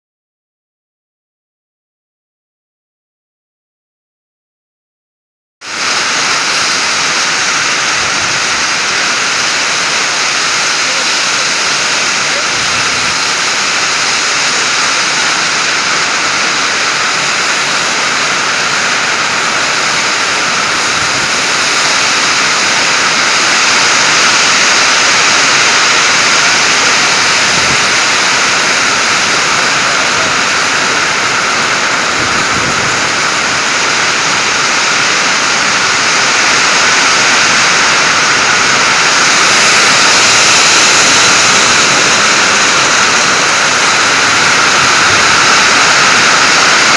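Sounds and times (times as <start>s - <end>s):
hail on sheet-metal shed: 5.7s - 46.9s.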